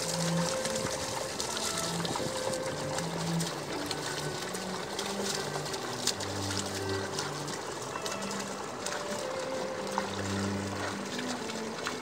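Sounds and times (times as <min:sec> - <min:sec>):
hooves squelching through mud: 0:00.0 - 0:12.0
wet splashes: 0:00.0 - 0:12.0.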